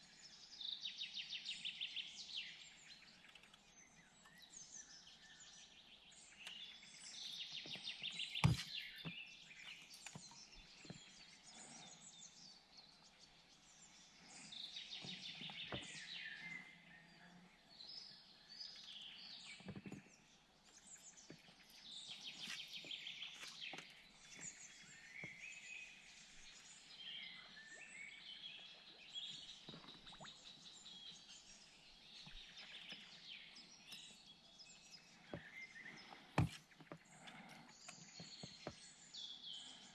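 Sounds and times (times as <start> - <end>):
songbirds singing: 0.0 - 39.9
trilled bird song: 0.0 - 39.9.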